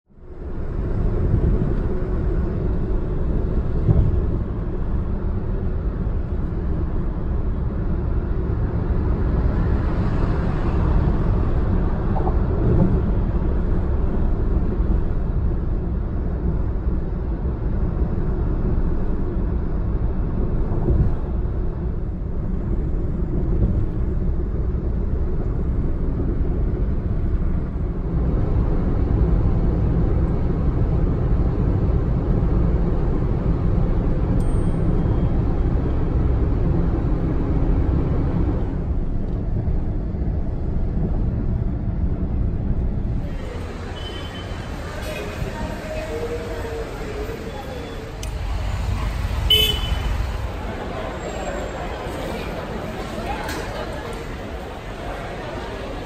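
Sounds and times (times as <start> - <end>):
car interior road rumble: 0.2 - 56.0.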